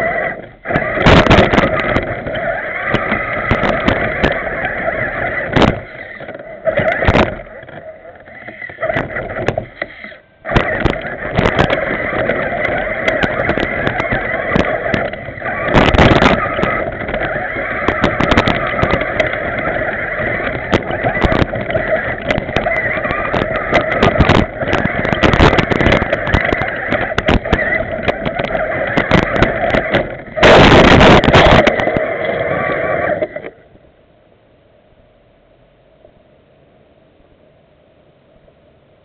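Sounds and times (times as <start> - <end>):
toy truck motor running: 0.0 - 33.6
rough burst of noise: 0.0 - 39.0
clicks and knocks over dirt: 0.4 - 32.4.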